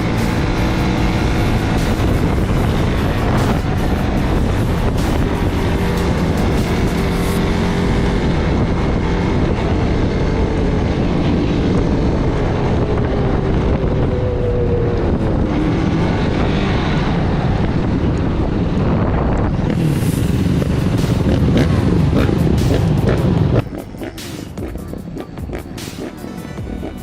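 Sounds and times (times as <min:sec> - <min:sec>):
wind buffeting microphone: 0:00.0 - 0:23.8
off-road vehicle engine running: 0:00.0 - 0:27.0.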